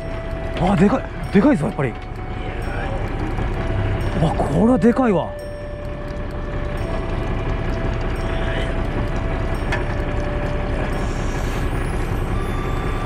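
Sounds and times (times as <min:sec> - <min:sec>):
boat engine running: 0:00.0 - 0:13.0
higher whine: 0:00.0 - 0:13.0
mechanical whine: 0:00.0 - 0:13.0.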